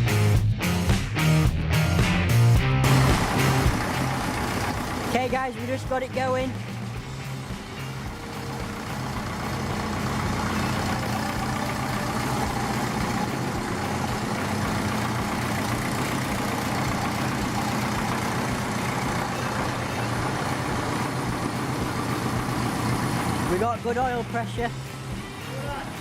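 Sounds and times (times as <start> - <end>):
tractor engine running: 1.9 - 25.4.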